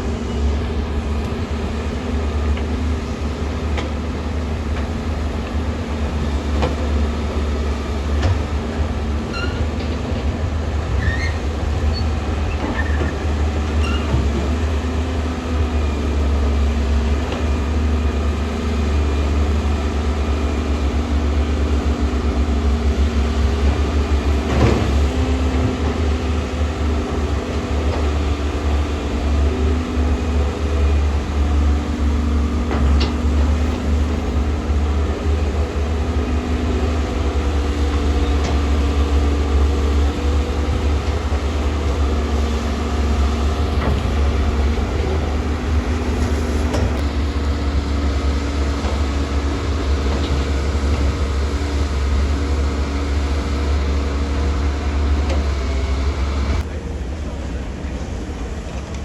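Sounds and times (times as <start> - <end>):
heavy machinery engine drone: 0.0 - 59.0.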